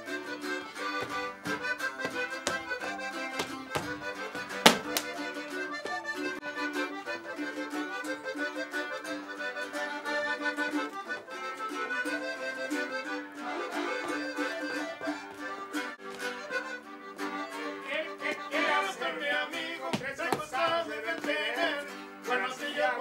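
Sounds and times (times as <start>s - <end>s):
accordion chords: 0.0s - 23.0s.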